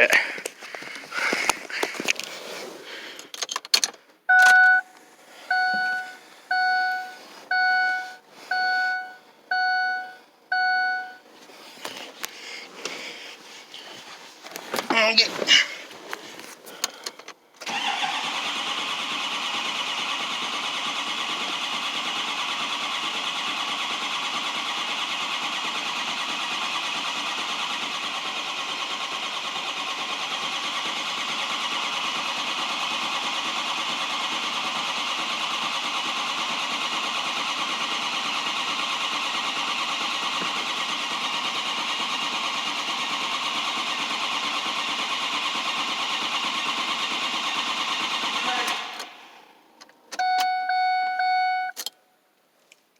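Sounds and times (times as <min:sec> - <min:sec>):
diesel engine starter cranking: 0:00.1 - 0:14.9, 0:16.4 - 0:50.6.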